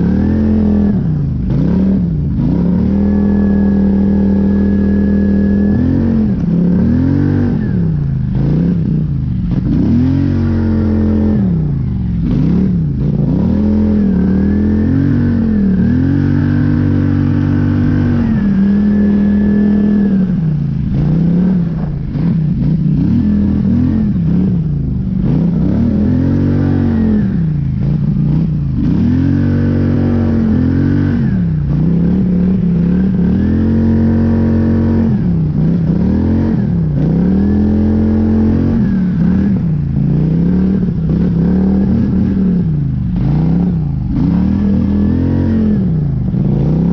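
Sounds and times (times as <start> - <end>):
atv engine revving: 0.0 - 46.9.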